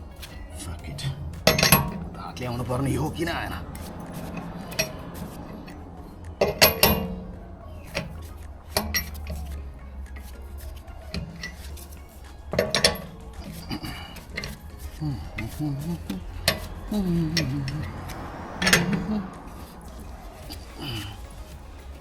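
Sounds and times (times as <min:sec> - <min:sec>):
metal tools clanking on wheel: 0:00.0 - 0:22.0.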